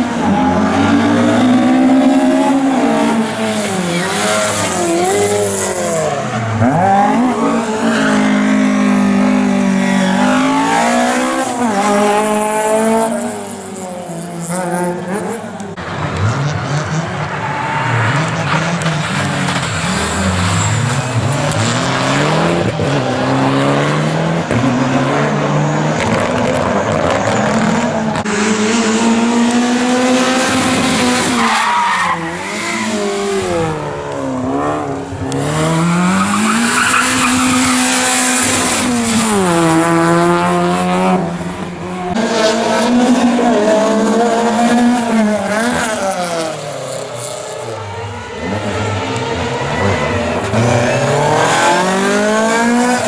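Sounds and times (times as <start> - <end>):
rally car engines accelerating: 0.0 - 53.0.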